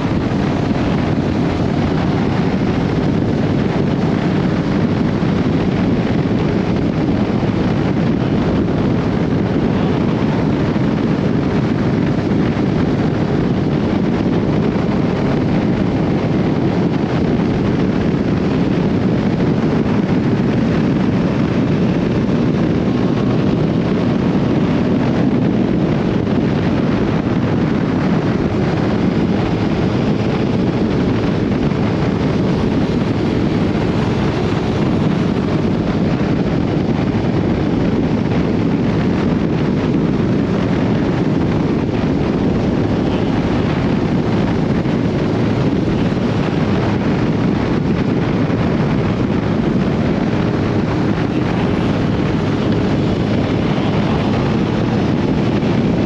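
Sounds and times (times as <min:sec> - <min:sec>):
motorcycle engine cruising: 0:00.0 - 0:56.0
road noise: 0:00.0 - 0:56.0
wind buffeting microphone: 0:00.0 - 0:56.0.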